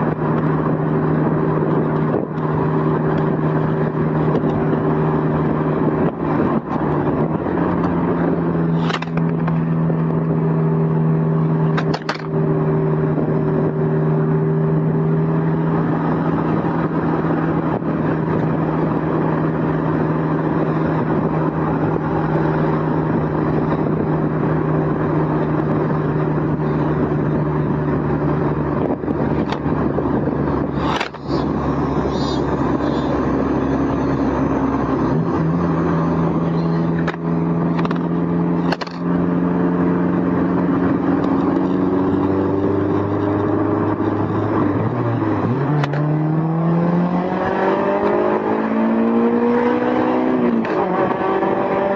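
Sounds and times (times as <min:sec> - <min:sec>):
car engine running: 0:00.0 - 0:51.9
wind and road noise: 0:00.0 - 0:51.9.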